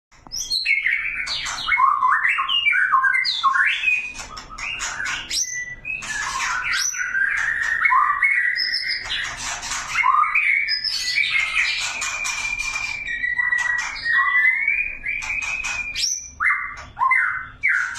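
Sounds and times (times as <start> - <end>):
bird singing gliding whistles: 0.3 - 9.3, 9.9 - 17.9
harsh scratchy bird notes: 3.5 - 17.9.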